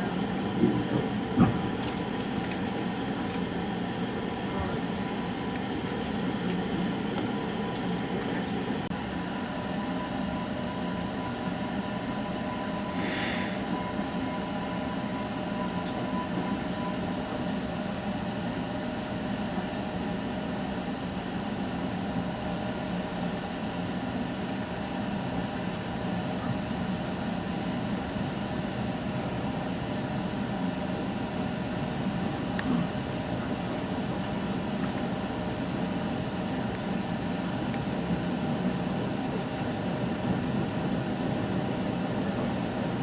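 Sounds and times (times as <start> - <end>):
train rumble inside coach: 0.0 - 43.0.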